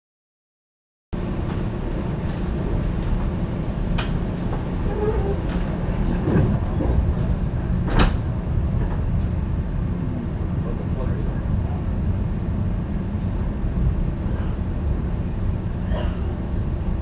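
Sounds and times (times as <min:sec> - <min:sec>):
train rumbling inside car: 0:01.2 - 0:17.0.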